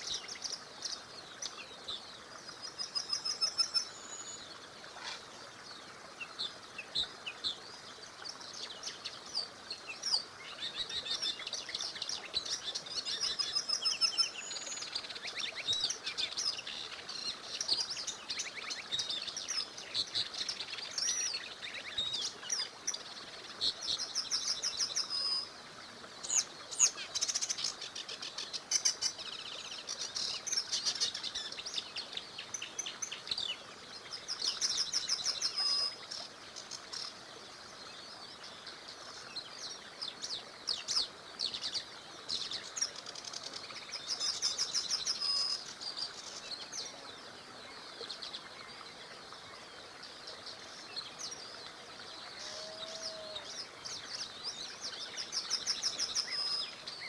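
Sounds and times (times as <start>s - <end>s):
faint murmur of stream: 0.0s - 57.0s
songbirds singing and chirping: 0.0s - 57.0s.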